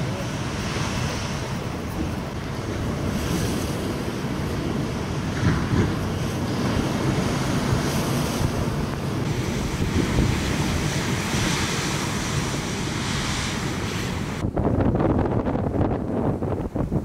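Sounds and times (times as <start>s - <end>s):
surf crashing against seawall: 0.0s - 17.0s
wind buffeting microphone: 0.0s - 17.0s.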